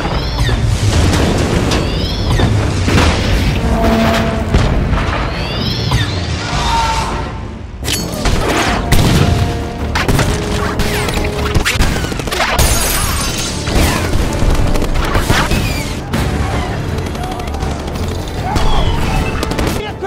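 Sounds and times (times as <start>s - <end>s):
film music score: 0.0s - 20.0s.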